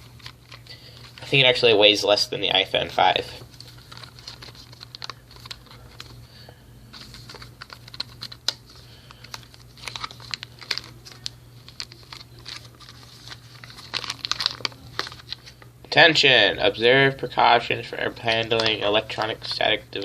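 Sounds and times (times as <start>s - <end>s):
plastic packaging crinkling: 0.0s - 1.7s, 2.5s - 15.7s, 18.1s - 20.0s
steady low hum: 0.0s - 20.0s.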